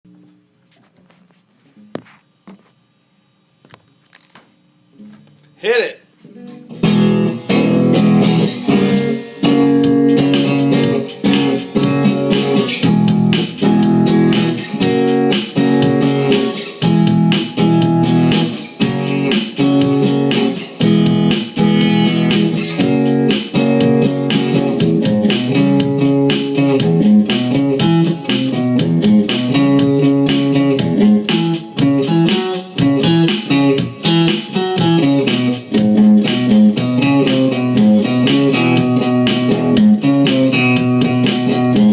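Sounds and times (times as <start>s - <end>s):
blues guitar playing: 5.0s - 41.9s.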